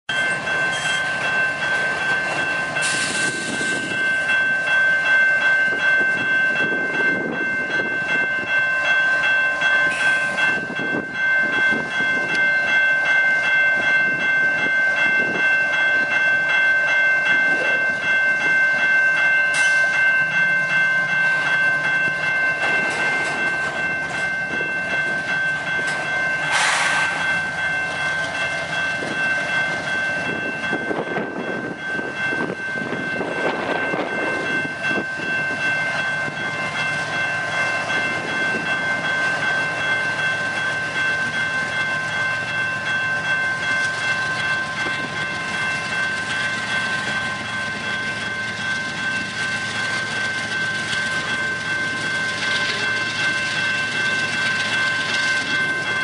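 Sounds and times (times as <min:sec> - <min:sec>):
coal train rumbling and clattering: 0:00.1 - 0:56.0
train cars clanking: 0:00.1 - 0:56.0.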